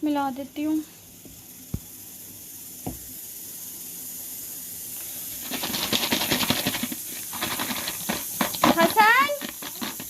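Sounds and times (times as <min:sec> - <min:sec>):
fries rattling in a bowl: 0:00.0 - 0:10.0
steady hiss: 0:00.0 - 0:10.0.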